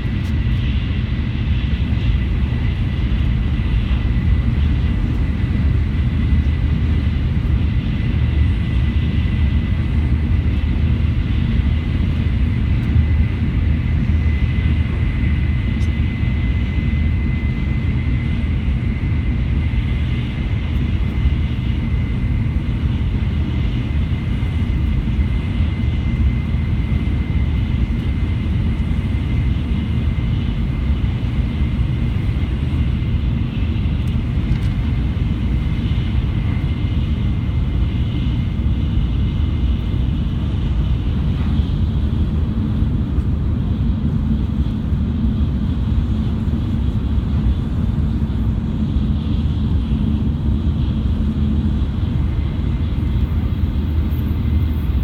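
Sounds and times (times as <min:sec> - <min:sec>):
train running at speed: 0:00.0 - 0:55.0.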